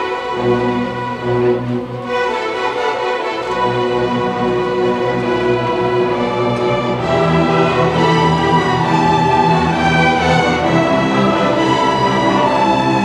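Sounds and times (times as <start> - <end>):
string orchestra holding notes: 0.0 - 13.0.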